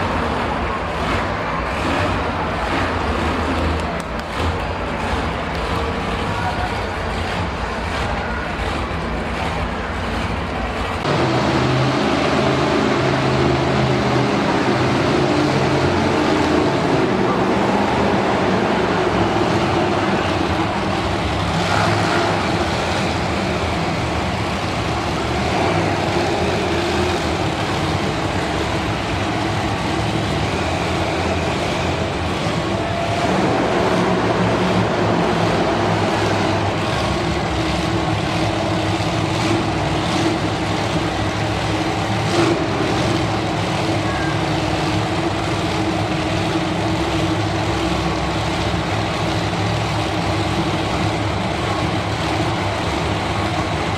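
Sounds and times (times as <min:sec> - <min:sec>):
monster truck engine running: 0:00.0 - 0:53.9.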